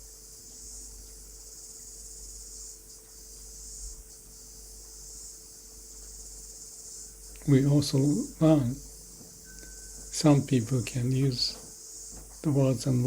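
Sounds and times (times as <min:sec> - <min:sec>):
faint low hum: 0:00.0 - 0:13.0
high-pitched hiss: 0:00.0 - 0:13.0.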